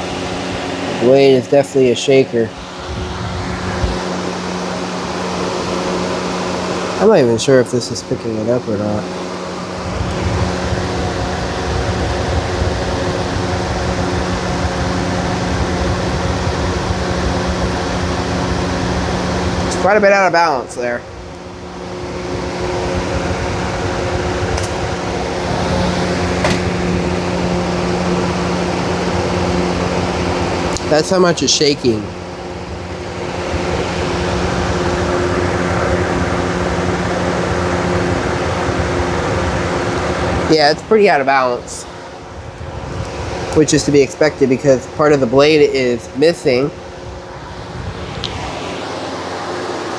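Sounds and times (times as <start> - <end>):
box fan motor hum: 0.0 - 49.9
fan rumbling out of balance: 0.0 - 49.9.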